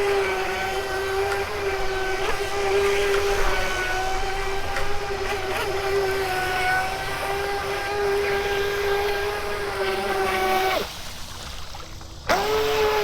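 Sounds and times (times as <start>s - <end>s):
remote-control boat motor whine: 0.0s - 13.0s.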